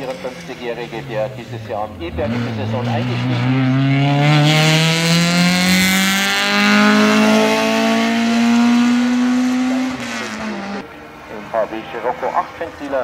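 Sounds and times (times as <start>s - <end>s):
race car engine accelerating: 0.0s - 10.9s.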